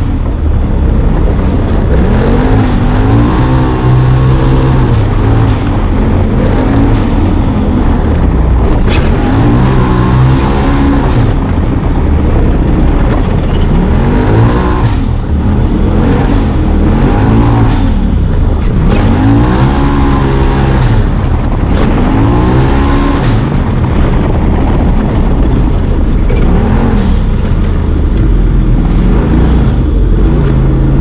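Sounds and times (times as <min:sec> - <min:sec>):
engine racing: 0:00.0 - 0:31.0.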